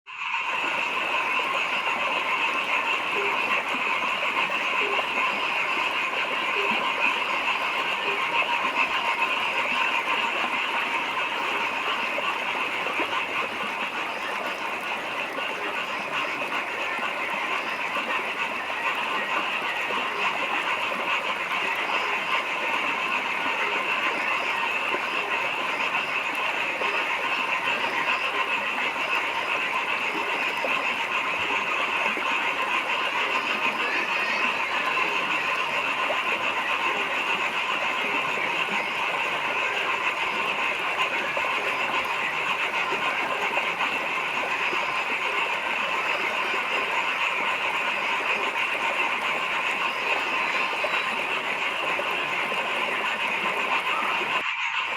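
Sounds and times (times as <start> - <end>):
chorus of frogs calling: 0.1 - 54.9.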